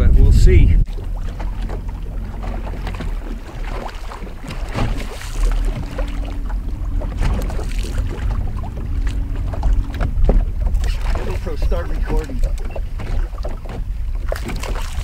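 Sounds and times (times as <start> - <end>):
small waves lapping against hull: 0.0 - 15.0
wind rumbling on microphone: 0.0 - 15.0.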